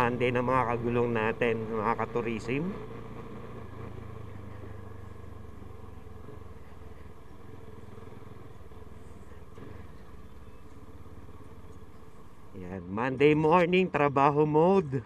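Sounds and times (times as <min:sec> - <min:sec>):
motorcycle engine running: 0:00.0 - 0:14.5
road noise: 0:00.0 - 0:15.0.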